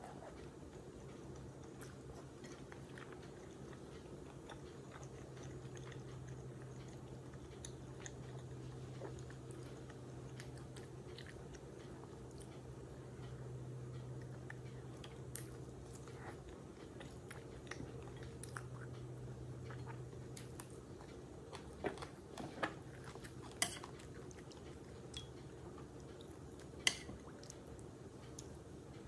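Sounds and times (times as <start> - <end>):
faint low hum: 0.0 - 29.0
person chewing: 0.1 - 28.6.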